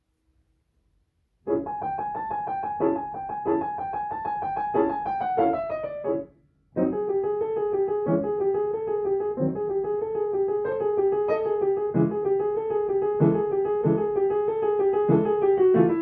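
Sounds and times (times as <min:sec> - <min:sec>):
slow piano playing: 0:01.5 - 0:16.0.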